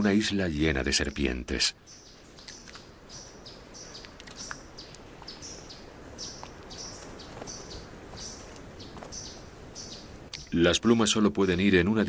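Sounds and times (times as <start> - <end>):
small songbird chirping: 0.9 - 11.0.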